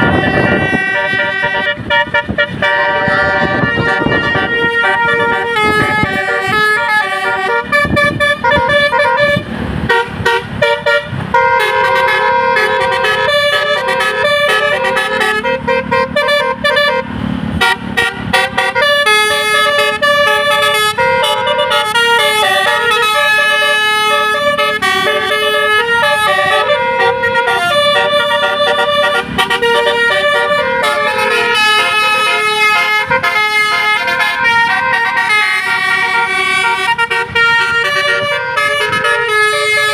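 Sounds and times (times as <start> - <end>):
musical air horn melody: 0.0 - 39.9.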